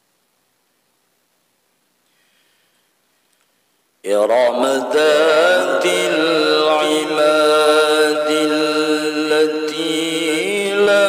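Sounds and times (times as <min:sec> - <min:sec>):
faint recording hiss: 0:00.0 - 0:11.0.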